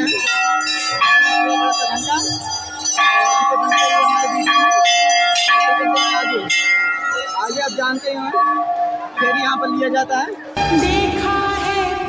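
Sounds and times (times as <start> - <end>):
temple bells clanging: 0.0 - 12.0.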